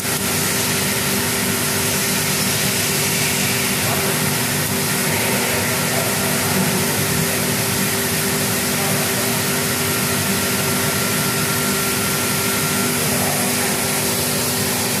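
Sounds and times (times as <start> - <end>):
continuous machine hiss: 0.0 - 15.0.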